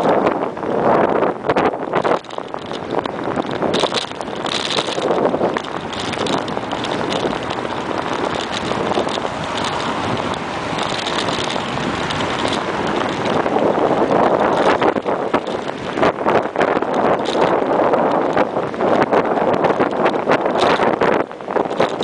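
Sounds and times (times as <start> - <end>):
bicycle road noise: 0.0 - 22.0
wind rushing: 0.0 - 22.0
small rattles and knocks: 1.9 - 22.0.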